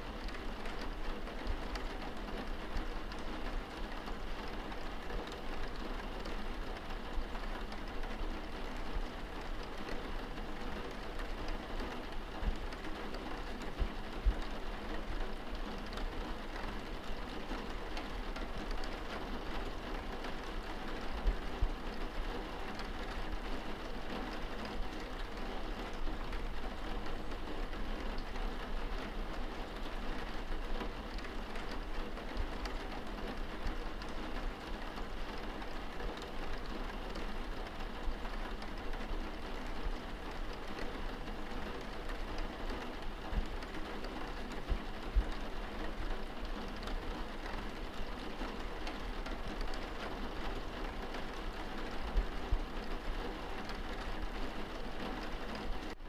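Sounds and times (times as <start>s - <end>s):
rain pattering on window glass: 0.0s - 56.0s.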